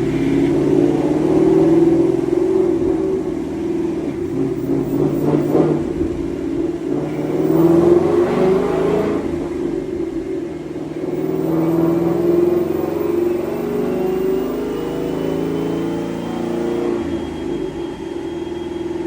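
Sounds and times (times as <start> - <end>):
car exhaust note: 0.0 - 19.0.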